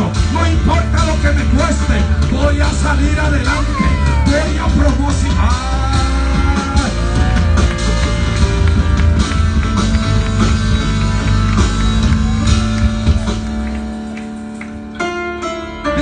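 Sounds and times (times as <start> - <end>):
electric keyboard: 0.0 - 16.0
heavy bass: 0.0 - 16.0.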